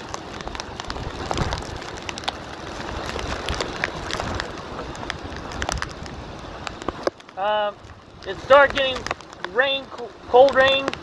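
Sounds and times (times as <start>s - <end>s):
rain drops hitting: 0.0s - 11.0s
rain hiss: 0.0s - 11.0s
wind buffeting microphone: 0.0s - 11.0s.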